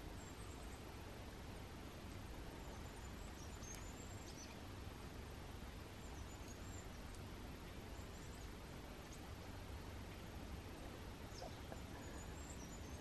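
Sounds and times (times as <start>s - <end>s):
quiet forest background: 0.0s - 13.0s
songbirds chirping: 0.0s - 13.0s.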